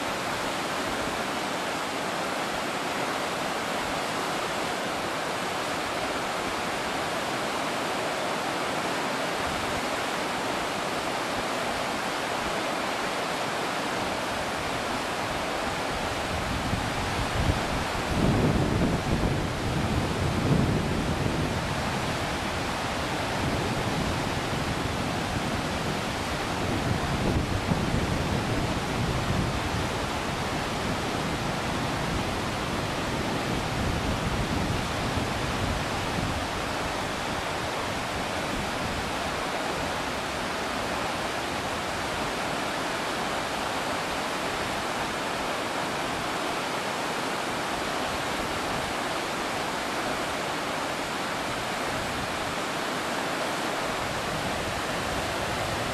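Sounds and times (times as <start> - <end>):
whitewater rapids rushing over rocks: 0.0 - 55.9.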